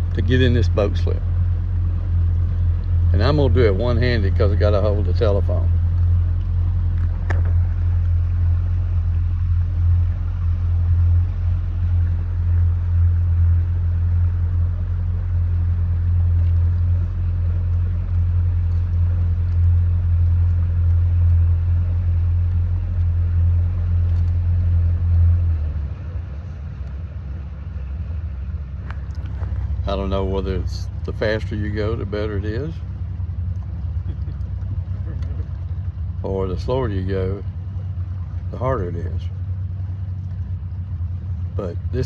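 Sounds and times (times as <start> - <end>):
boat motor humming: 0.0 - 42.0.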